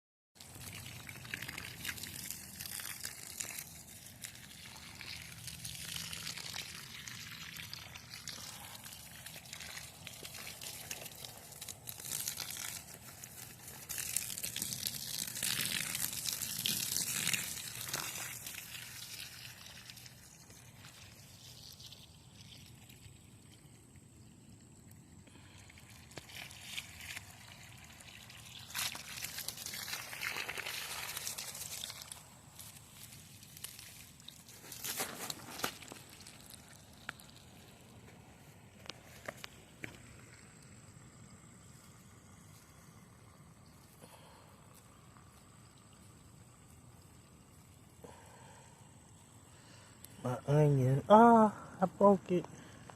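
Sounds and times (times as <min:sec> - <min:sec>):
water pouring onto plants: 0:00.4 - 0:52.9.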